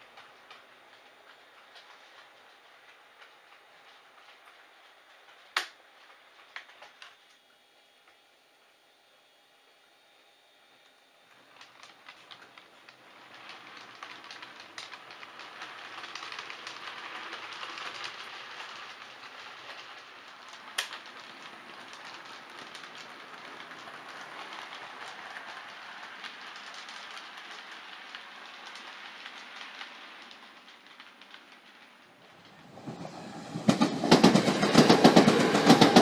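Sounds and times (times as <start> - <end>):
clicks over rail joints: 0.0 - 7.4, 11.3 - 36.0
model train wheels whirring on rail: 0.0 - 36.0.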